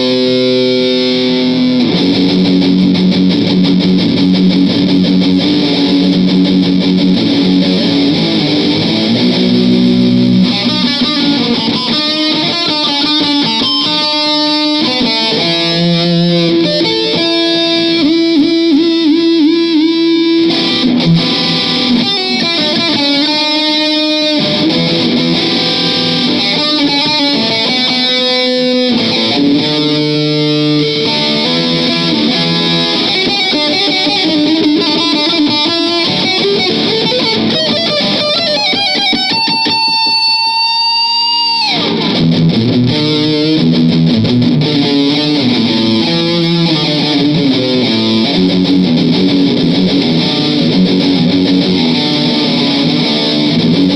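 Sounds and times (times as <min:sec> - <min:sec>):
electric guitar playing riffs: 0:00.0 - 0:53.9.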